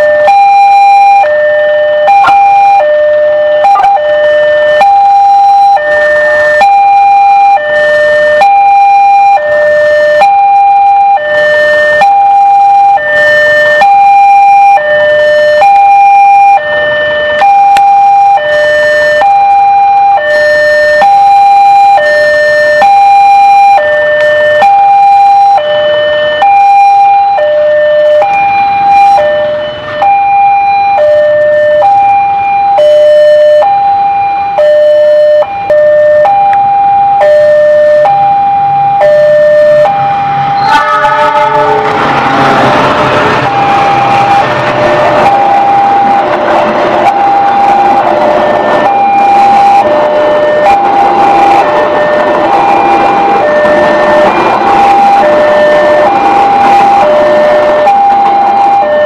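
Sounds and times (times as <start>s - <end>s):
level crossing two-tone alarm: 0.0s - 59.0s.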